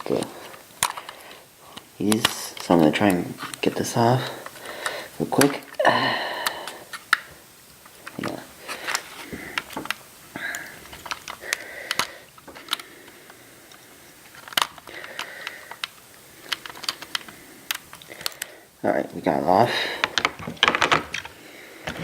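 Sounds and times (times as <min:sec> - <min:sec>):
plastic parts clicking: 0:00.0 - 0:18.6, 0:20.0 - 0:22.0
plastic scraping: 0:00.0 - 0:22.0.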